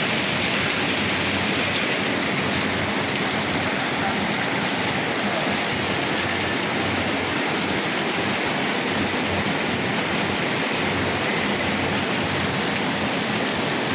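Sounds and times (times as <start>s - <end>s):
steady rain falling: 0.0s - 13.9s.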